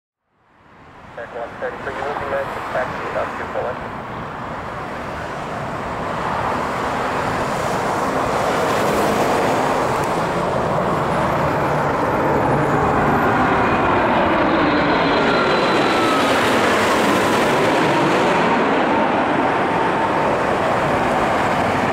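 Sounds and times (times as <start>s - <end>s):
jet engines roaring: 0.8s - 21.9s.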